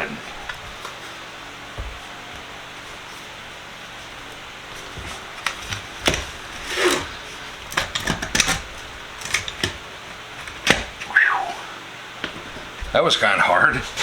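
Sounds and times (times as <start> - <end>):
socket scraping: 0.0 - 11.6.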